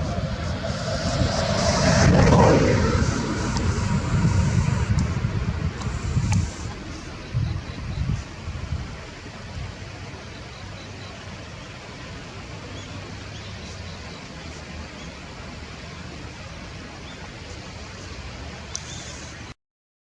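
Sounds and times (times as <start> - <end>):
outdoor background noise: 0.0 - 19.6.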